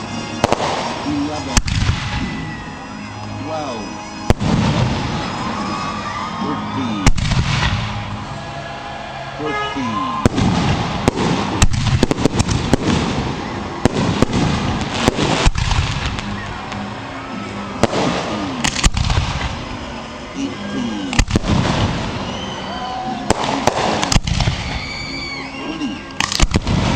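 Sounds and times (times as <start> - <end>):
firework crackling: 0.0 - 8.9, 9.5 - 26.9.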